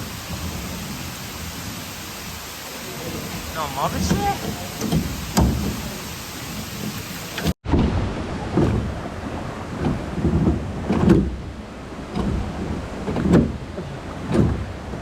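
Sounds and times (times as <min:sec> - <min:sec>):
water splashing against rowboat: 0:00.0 - 0:15.0.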